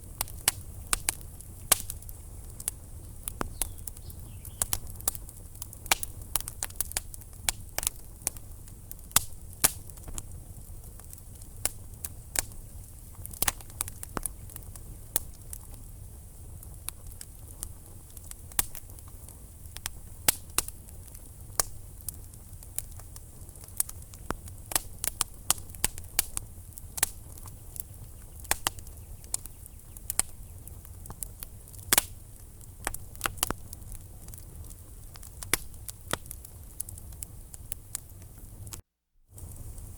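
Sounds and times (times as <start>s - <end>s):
low rumble of flames: 0.0s - 39.9s
wood fire popping and snapping: 0.0s - 39.9s.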